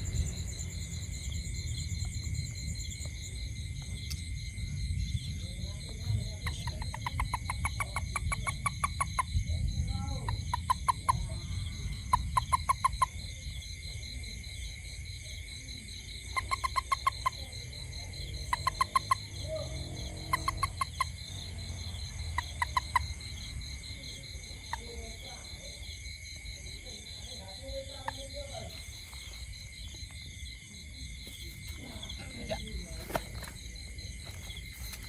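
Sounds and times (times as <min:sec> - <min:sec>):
insects chorus: 0:00.0 - 0:35.0
toad croaking: 0:00.0 - 0:35.0.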